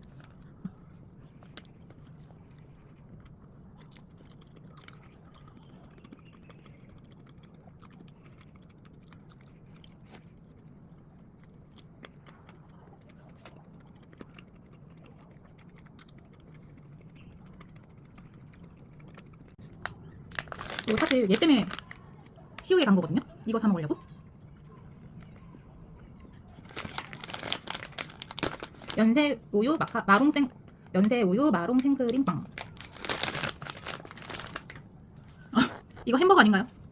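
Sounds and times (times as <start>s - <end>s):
person chewing: 0.0s - 22.6s, 24.5s - 29.0s, 32.5s - 36.0s
low steady hum: 0.0s - 36.9s.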